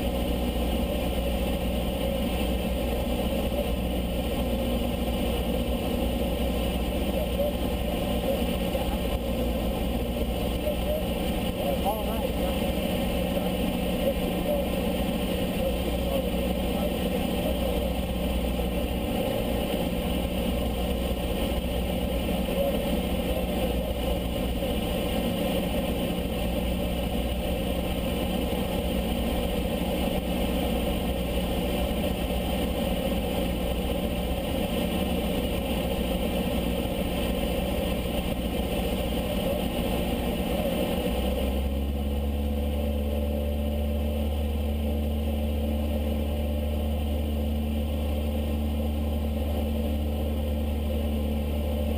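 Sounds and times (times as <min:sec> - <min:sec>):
aircraft engine and propeller droning: 0:00.0 - 0:51.9.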